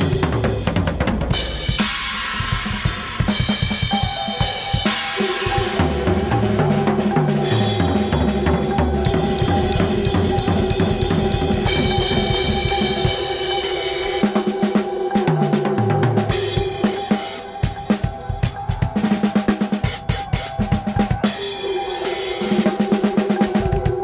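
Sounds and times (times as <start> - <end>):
drum kit playing: 0.0 - 24.0
electronic droning tones: 3.4 - 24.0.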